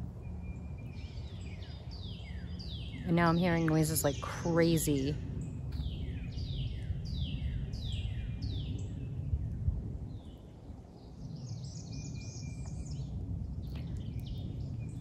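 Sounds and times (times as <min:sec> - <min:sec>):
low outdoor background rumble: 0:00.0 - 0:15.0
bird chirping: 0:00.2 - 0:09.1, 0:11.2 - 0:15.0.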